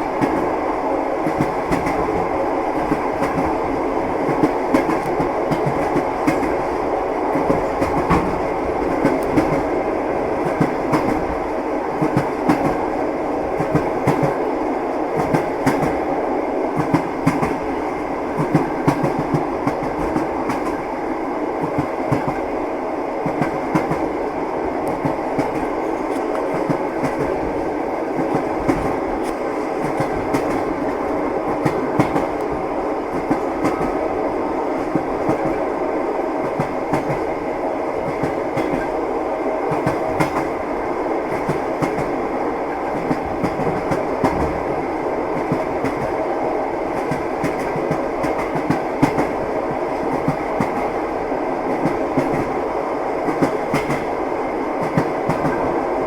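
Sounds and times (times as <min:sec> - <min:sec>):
train wheels clattering over rails: 0:01.2 - 0:14.5, 0:15.1 - 0:16.1, 0:16.7 - 0:21.0, 0:21.6 - 0:22.5, 0:23.2 - 0:34.1, 0:36.4 - 0:37.4, 0:38.0 - 0:51.0, 0:51.7 - 0:52.6, 0:53.2 - 0:55.9.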